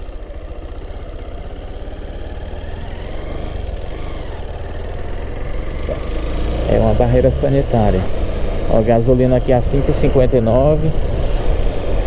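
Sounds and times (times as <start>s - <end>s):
motorcycle engine throbbing: 0.0s - 12.0s
road and wind noise: 0.0s - 12.0s.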